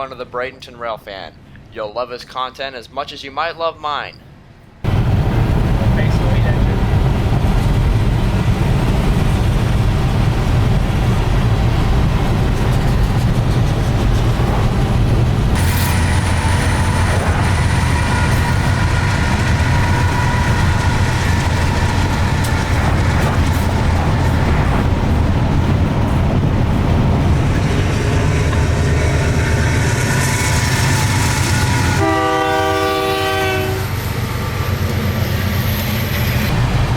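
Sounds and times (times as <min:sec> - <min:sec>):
freight train rumbling: 0:04.8 - 0:36.9.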